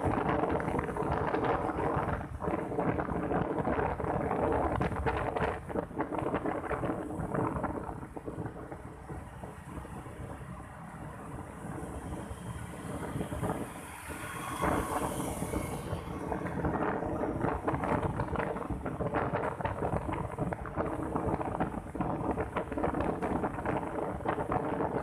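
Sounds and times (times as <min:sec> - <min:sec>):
motorcycle engine hum: 0:00.0 - 0:25.0
wind buffeting microphone: 0:00.0 - 0:25.0.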